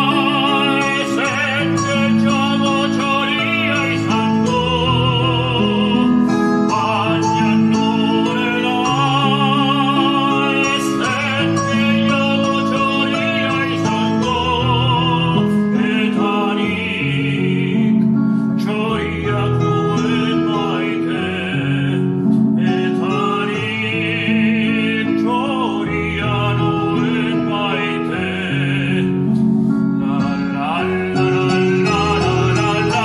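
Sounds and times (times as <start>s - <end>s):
person singing with vibrato: 0.0s - 33.0s
sustained instrumental accompaniment: 0.0s - 33.0s.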